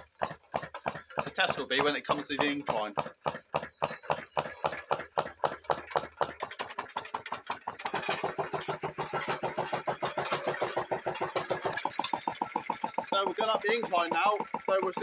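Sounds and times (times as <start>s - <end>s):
model engine mechanical beat: 0.0s - 15.0s.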